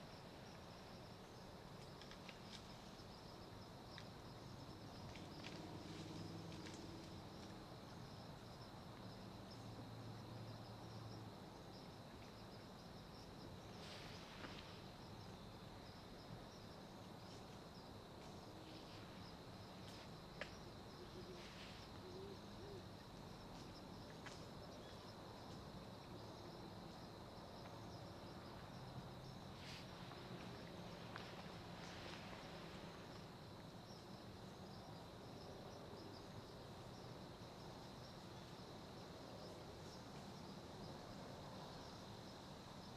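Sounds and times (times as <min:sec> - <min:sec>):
crickets trilling: 0:00.0 - 0:42.9.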